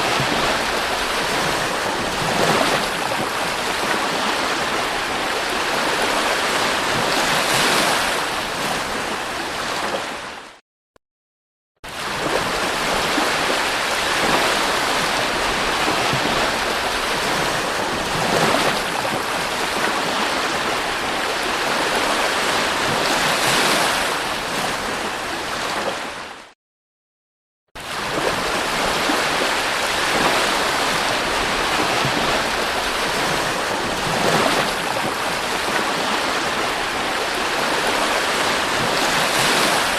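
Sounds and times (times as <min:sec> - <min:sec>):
sea surf washing onto beach: 0:00.0 - 0:10.4, 0:12.0 - 0:26.3, 0:27.8 - 0:39.9.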